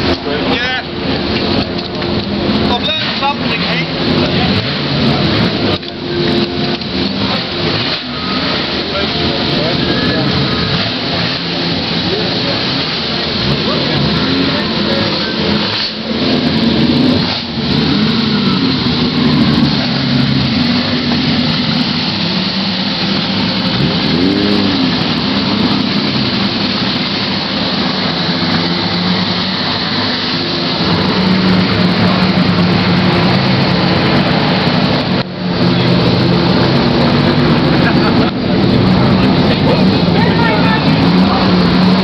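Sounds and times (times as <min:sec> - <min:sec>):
race car engines at low speed: 0:00.0 - 0:42.0.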